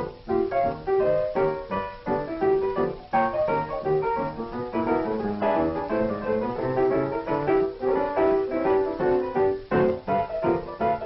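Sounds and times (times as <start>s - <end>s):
solo piano: 0.0s - 11.0s.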